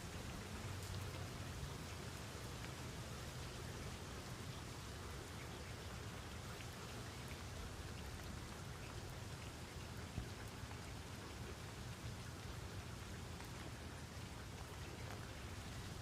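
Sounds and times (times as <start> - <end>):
rain pattering: 0.0 - 16.0
raindrops ticking: 0.2 - 16.0.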